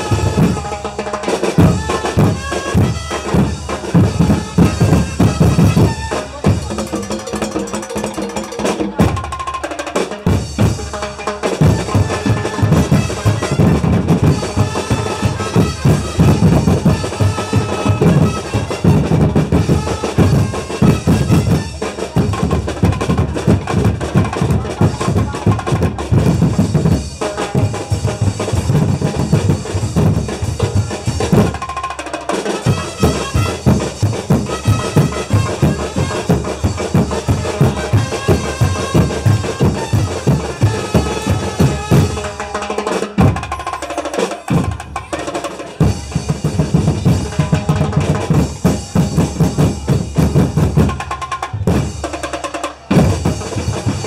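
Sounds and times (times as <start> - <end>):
bass and snare drums: 0.0 - 54.0.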